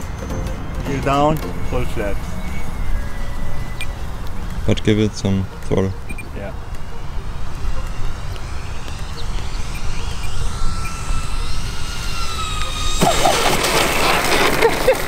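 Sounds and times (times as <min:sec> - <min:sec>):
model plane propellers whining: 0:00.0 - 0:15.0
rush of noise: 0:00.0 - 0:15.0.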